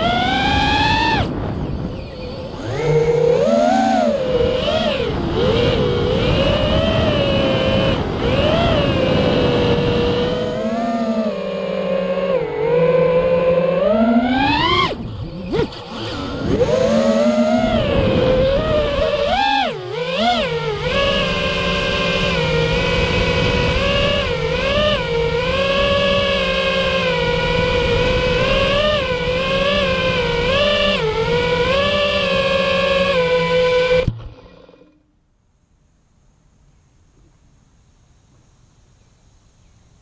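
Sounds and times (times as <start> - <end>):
propeller rushing noise: 0.0 - 35.0
quadcopter motors whining: 0.0 - 35.1.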